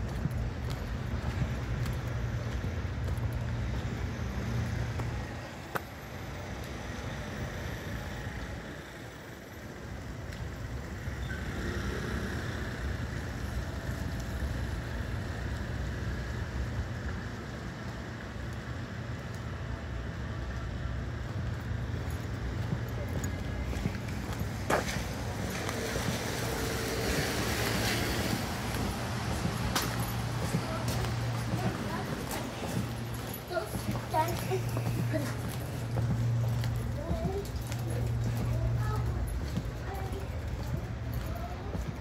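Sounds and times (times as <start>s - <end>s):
traffic on wet street: 0.0s - 42.0s.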